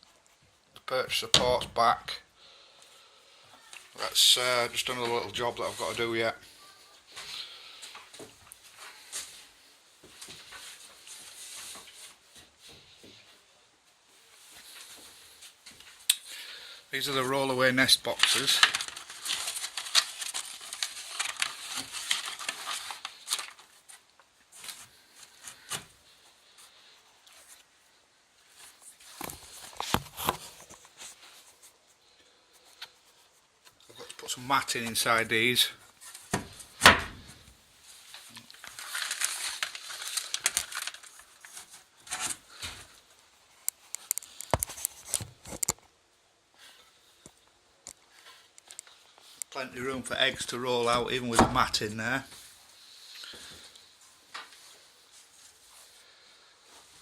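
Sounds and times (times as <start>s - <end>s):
mat rustling and crinkling: 3.6s - 57.0s.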